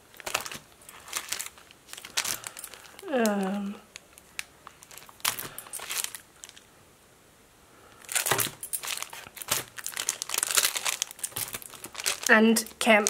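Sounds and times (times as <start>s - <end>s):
plastic sleeves crinkling: 0.0s - 6.7s, 7.9s - 13.0s.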